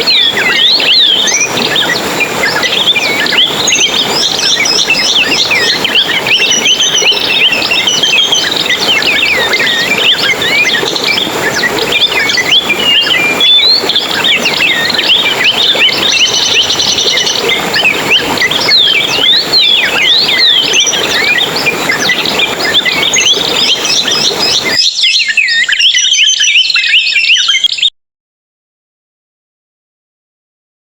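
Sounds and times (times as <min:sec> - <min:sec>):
songbirds chirping and twittering: 0:00.0 - 0:27.9.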